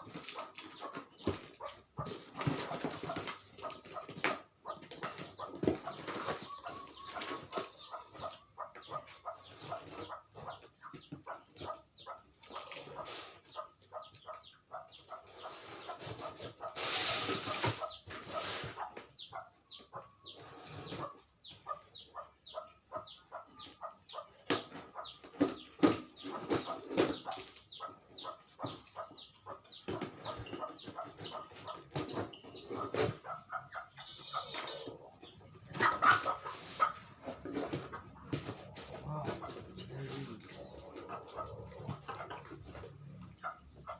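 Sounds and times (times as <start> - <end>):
chickens calling: 0.0 - 43.9.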